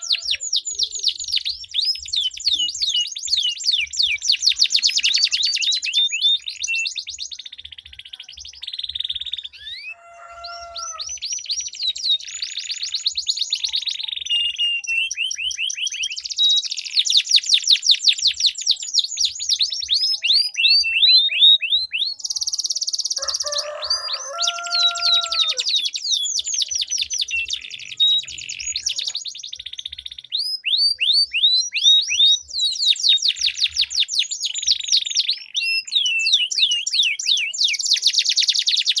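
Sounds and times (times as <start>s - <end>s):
canaries singing trills: 0.0s - 39.0s.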